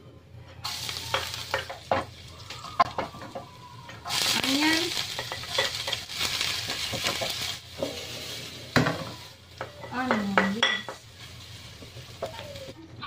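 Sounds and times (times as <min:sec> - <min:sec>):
aromatics sizzling in oil: 0:00.6 - 0:12.8.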